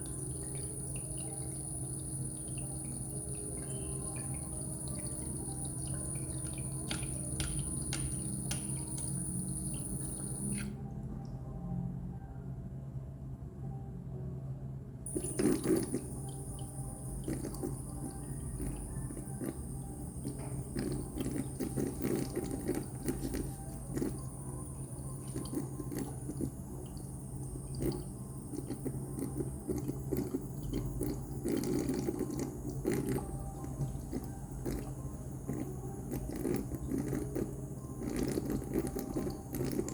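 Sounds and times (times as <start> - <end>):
water dripping into basin: 0.0 - 10.8, 15.1 - 39.9
thin high whine: 0.0 - 11.0, 15.1 - 39.9
steady low hum: 0.0 - 39.9.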